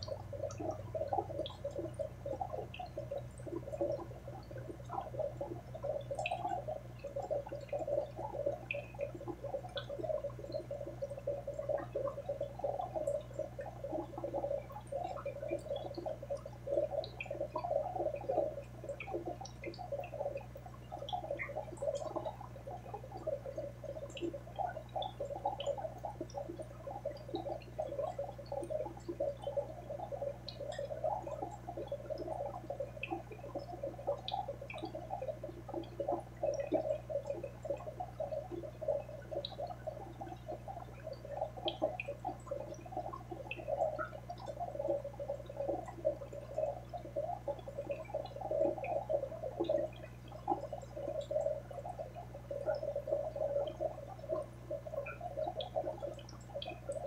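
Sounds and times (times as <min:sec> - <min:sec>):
aquarium water bubbling: 0:00.0 - 0:57.0
droplet ticks: 0:00.0 - 0:57.0
low steady hum: 0:00.0 - 0:57.0.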